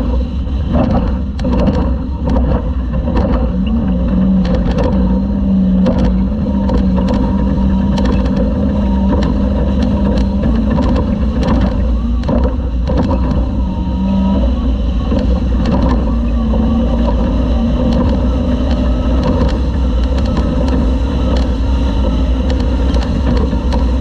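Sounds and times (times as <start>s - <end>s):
rattles and knocks over rough ground: 0.0s - 24.0s
truck engine running hard: 0.0s - 24.0s.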